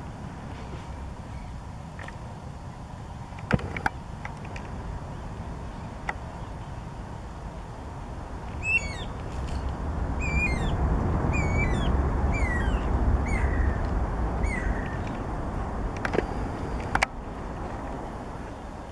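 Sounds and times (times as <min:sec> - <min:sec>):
distant jet engines rumbling: 0:00.0 - 0:18.9.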